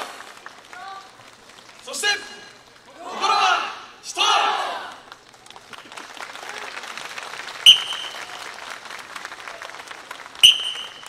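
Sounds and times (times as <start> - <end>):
audience applauding: 0.0 - 3.0, 4.8 - 11.0.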